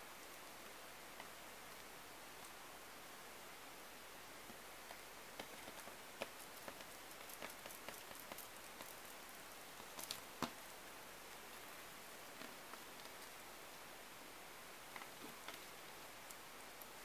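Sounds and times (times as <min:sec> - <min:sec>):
low hiss: 0:00.0 - 0:17.0.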